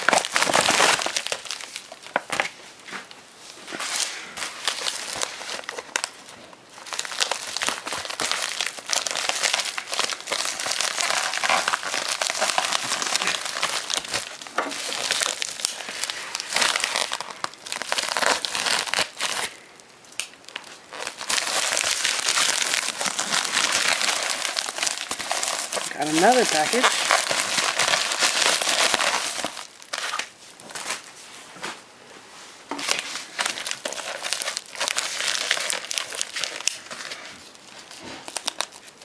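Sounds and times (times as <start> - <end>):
packing material crinkling: 0.0 - 31.1, 32.7 - 39.0.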